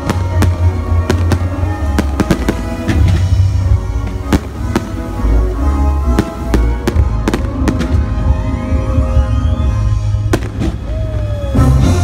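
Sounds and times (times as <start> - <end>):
fireworks bangs: 0.0 - 11.5.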